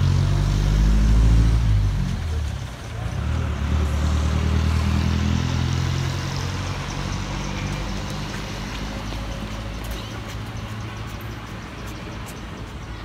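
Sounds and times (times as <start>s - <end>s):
outdoor noise: 0.0s - 13.0s
road traffic rumble: 0.0s - 13.0s.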